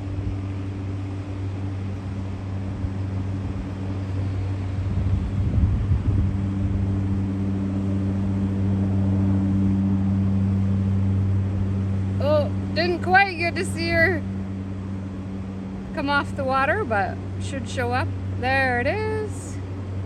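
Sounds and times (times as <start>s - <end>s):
floatplane engine droning: 0.0s - 20.0s.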